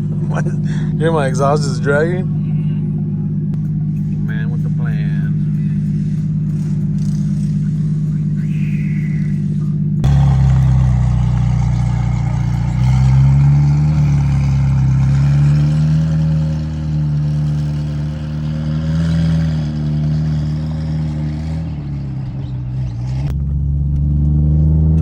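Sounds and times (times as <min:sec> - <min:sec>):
car engine and exhaust: 0:00.0 - 0:25.0.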